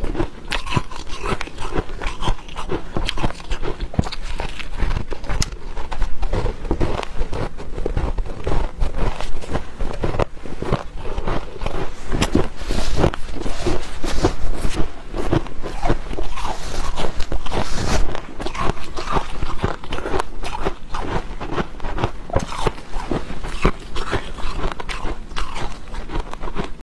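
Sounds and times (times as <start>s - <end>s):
person chewing crunchy frost: 0.0s - 26.8s.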